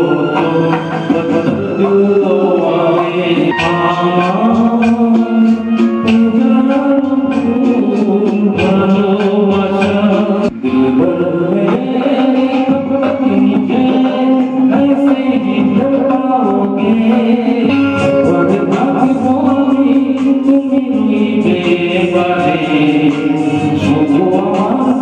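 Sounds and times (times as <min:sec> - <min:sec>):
song with instrumental backing: 0:00.0 - 0:25.0.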